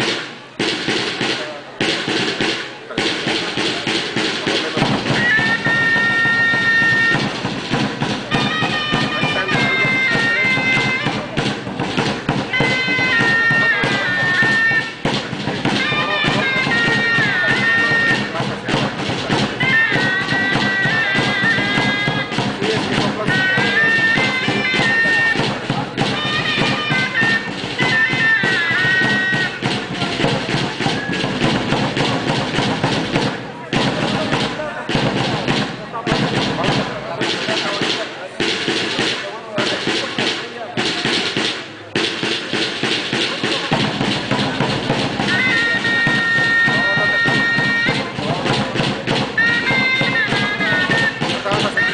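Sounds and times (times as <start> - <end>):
drum beats: 0.0 - 51.9
shawm playing held notes: 0.0 - 51.9.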